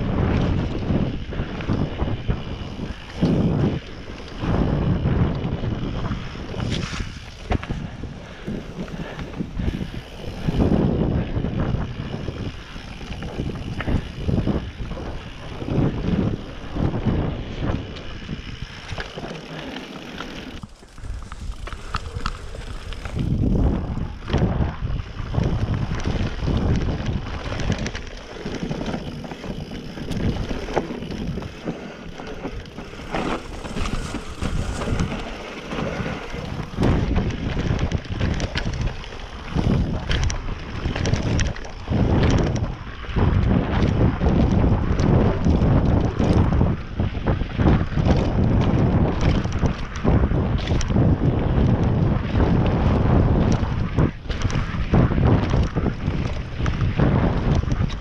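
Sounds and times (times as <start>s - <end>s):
bike chain and frame clattering: 0.0s - 58.0s
bike tyres rumbling over dirt: 0.0s - 58.0s
wind buffeting microphone: 0.0s - 58.0s.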